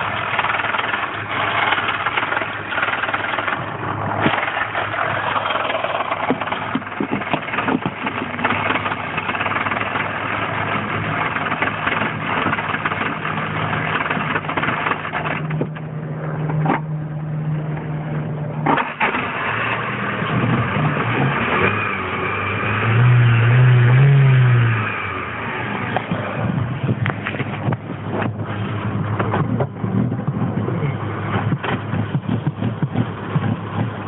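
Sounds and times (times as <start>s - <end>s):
car engine running roughly: 0.0s - 34.0s.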